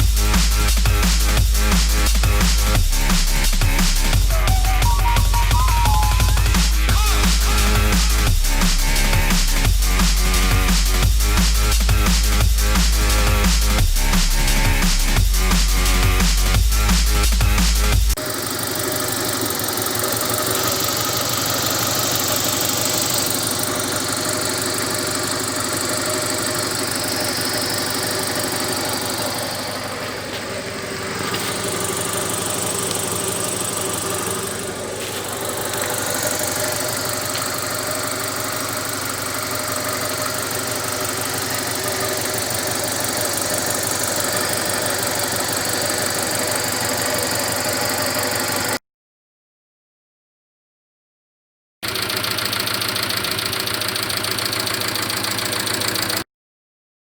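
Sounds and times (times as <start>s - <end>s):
engine running with knocking clatter: 0.0s - 48.8s, 51.8s - 56.2s.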